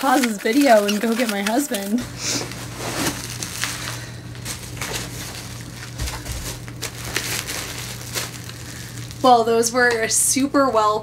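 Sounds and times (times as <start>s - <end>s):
bubble wrap crinkling: 0.0s - 10.0s
steady low hum: 0.0s - 11.0s.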